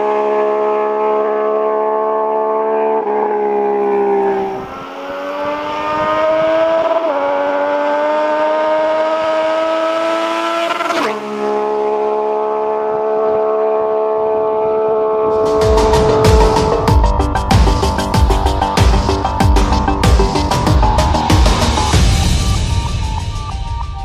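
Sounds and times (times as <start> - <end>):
motorcycle engine accelerating: 0.0 - 23.9.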